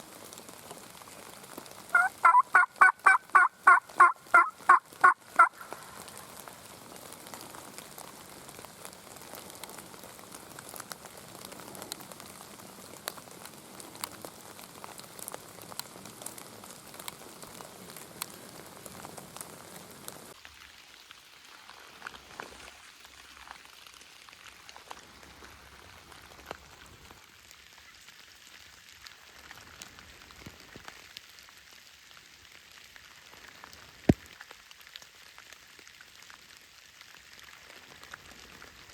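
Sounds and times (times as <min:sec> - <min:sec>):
raindrops ticking on a surface: 0:00.0 - 0:38.9
steady rain: 0:00.0 - 0:38.9.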